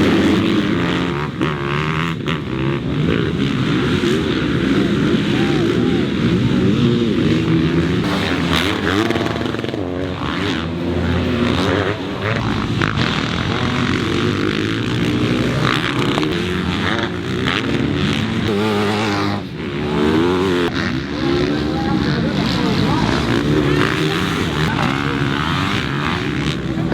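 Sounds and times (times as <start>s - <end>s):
dirt bike engines revving: 0.0s - 26.9s.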